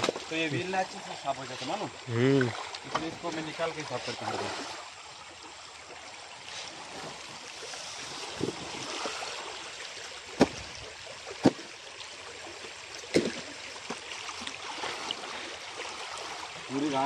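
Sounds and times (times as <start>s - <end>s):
stream water rippling over stones: 0.0s - 17.0s.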